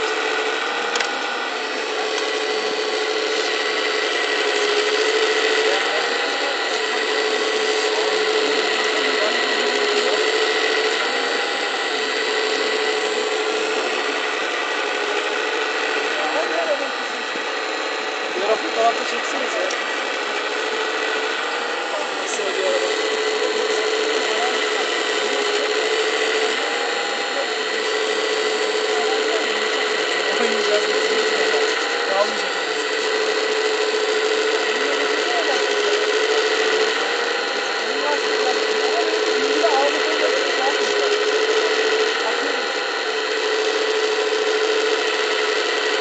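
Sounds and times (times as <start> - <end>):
hydraulic pump whine: 0.0 - 46.0.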